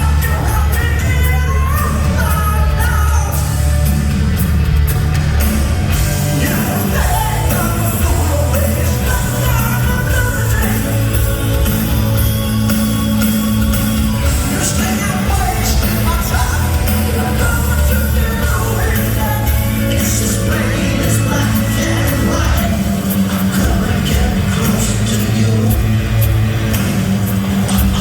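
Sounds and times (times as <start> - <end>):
man singing: 0.0 - 3.7, 6.2 - 26.8, 27.5 - 28.0
live rock band playing: 0.0 - 28.0.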